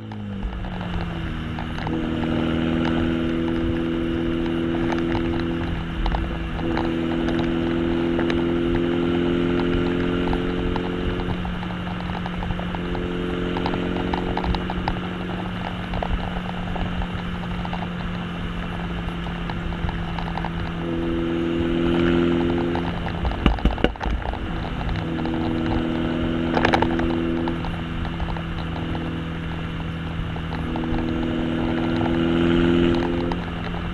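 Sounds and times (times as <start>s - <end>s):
car exhaust drone: 0.0s - 33.9s
exhaust pops: 0.0s - 33.9s
road and wind noise: 0.0s - 33.9s.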